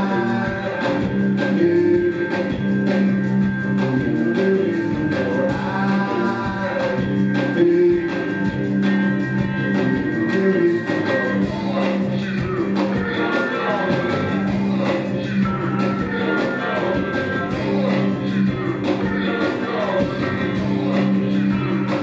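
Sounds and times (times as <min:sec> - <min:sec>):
drums beat: 0:00.0 - 0:22.0
rock band playing live: 0:00.0 - 0:22.0.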